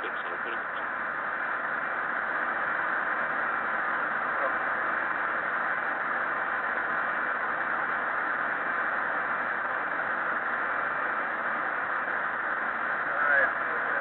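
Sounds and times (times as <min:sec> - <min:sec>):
cockpit background hiss: 0:00.0 - 0:14.0.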